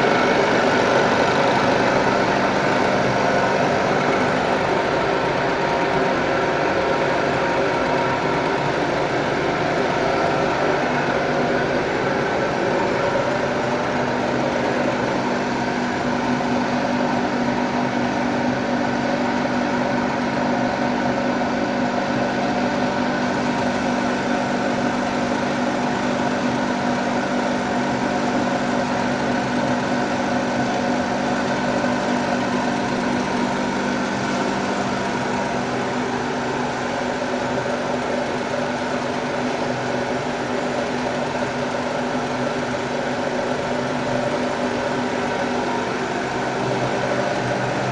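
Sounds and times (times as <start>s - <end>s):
fryer machine motor hum: 0.0s - 47.9s.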